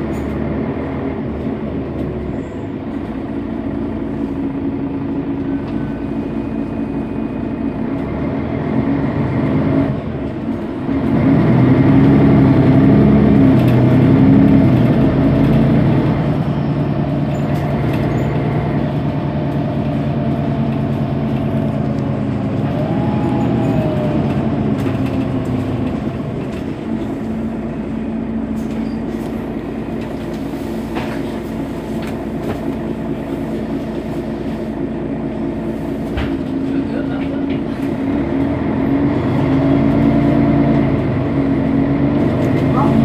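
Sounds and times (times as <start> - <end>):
bus engine idling hum: 0.0 - 43.0.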